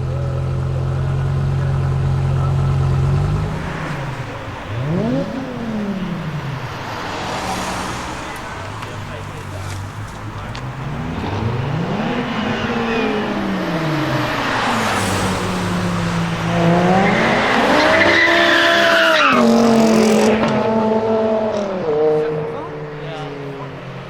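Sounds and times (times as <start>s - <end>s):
car engine revving hard: 0.0s - 24.0s
tyres squealing: 0.9s - 20.2s.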